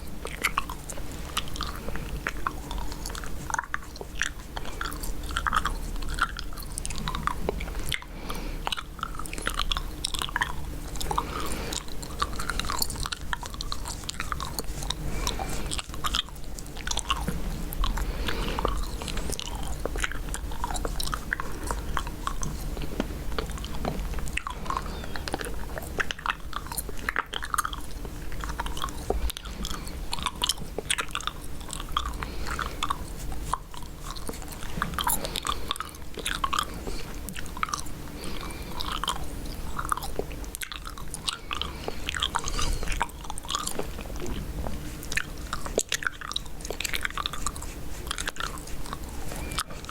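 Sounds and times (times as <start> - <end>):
gum chewing mouth clicks: 0.0 - 49.9.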